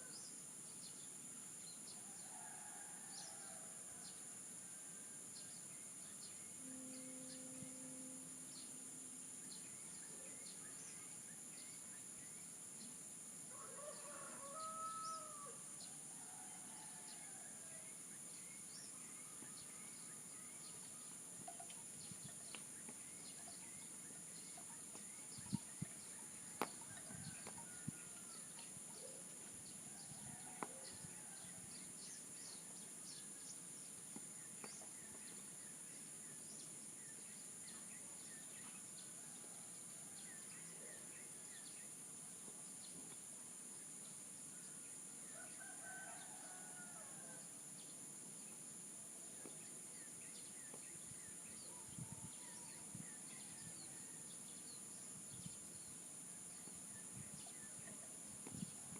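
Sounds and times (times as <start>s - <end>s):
insect drone: 0.0s - 58.9s.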